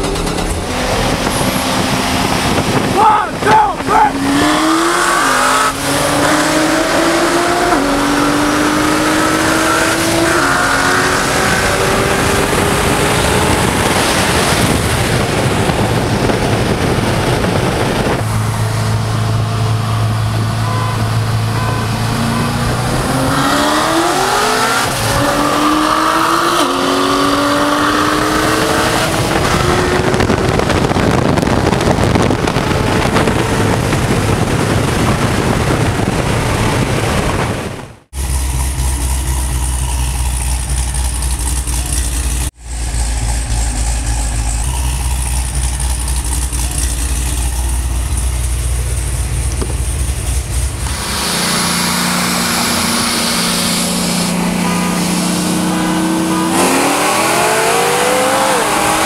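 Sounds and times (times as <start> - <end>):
car engine accelerating hard: 0.0 - 59.0
wind and road noise: 0.0 - 59.0.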